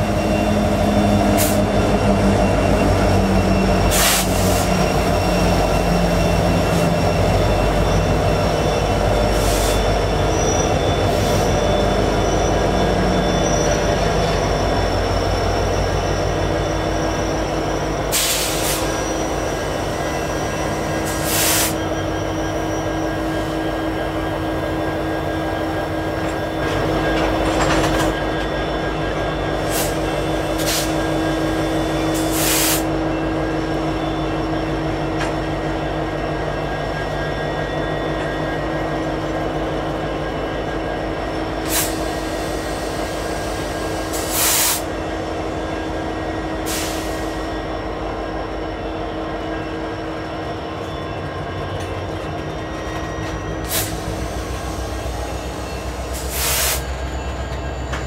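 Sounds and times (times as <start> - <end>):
diesel locomotives rumbling past: 0.0 - 58.0
train brakes screeching: 0.0 - 58.0.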